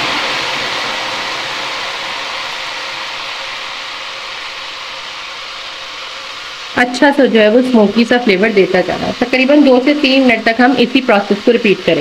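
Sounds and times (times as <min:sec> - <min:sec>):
ghee sizzling in a pot: 0:00.0 - 0:12.0.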